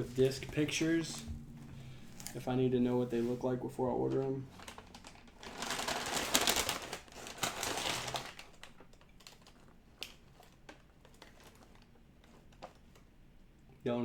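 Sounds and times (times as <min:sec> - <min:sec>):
packaging crinkling: 0:00.0 - 0:13.4.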